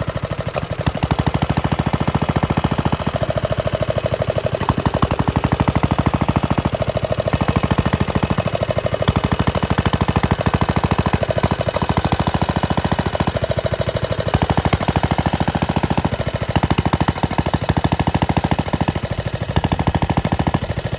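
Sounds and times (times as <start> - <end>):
stationary engine running: 0.0 - 20.9.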